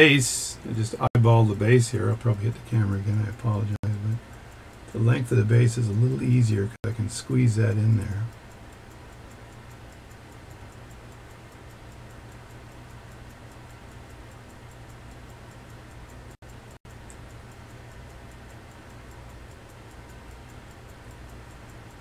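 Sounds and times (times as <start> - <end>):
pocket watch ticking: 0.0 - 22.0
steady low hum: 0.0 - 22.0.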